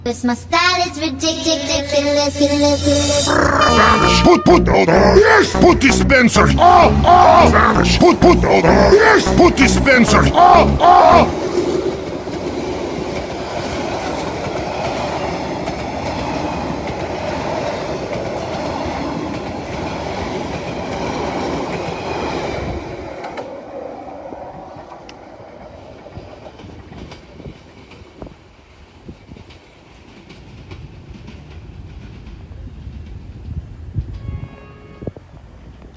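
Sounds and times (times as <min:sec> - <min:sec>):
train rumbling past: 0:00.0 - 0:35.9
train wheels clacking on rail joints: 0:06.5 - 0:35.9.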